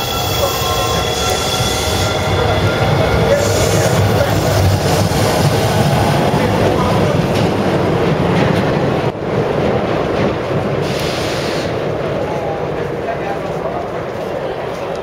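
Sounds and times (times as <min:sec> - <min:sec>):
train wheels clattering on rails: 0:00.0 - 0:15.0.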